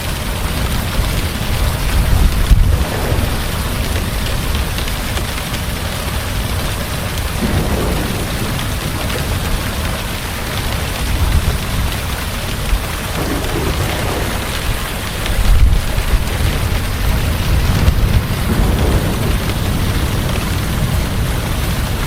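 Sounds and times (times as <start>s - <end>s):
heavy rain falling: 0.0s - 22.0s
low thunder rumbles: 0.5s - 22.0s.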